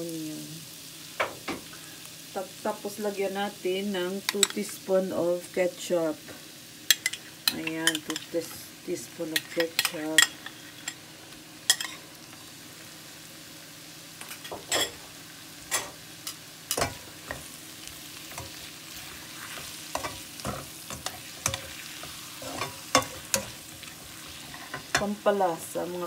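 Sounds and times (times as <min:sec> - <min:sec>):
onions and bacon sizzling in a pan: 0:00.0 - 0:26.0.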